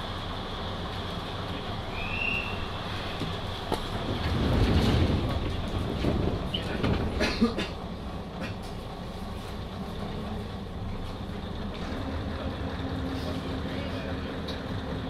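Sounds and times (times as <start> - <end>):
diesel railcar engine drone: 0.0 - 15.0.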